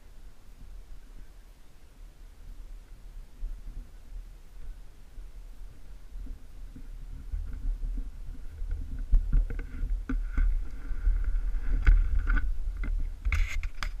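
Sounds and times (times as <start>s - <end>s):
microphone handling rumble: 2.4s - 14.0s.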